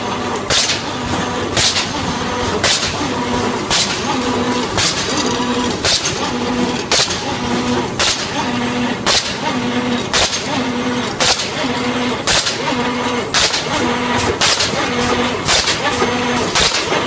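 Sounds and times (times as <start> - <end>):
machine banging: 0.4 - 17.0.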